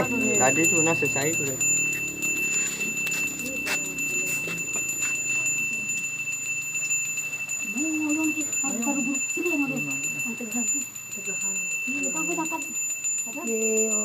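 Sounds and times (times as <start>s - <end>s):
hand bell ringing: 0.0s - 14.0s
voices: 0.0s - 14.0s.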